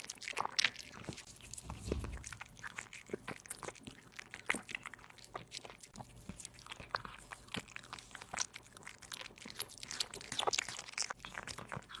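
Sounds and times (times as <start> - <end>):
kitten chewing meat: 0.0 - 12.0.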